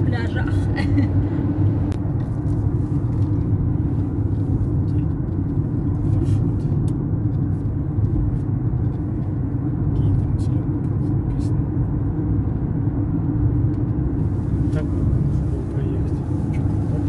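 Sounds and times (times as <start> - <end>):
car road and tyre rumble: 0.0 - 17.0.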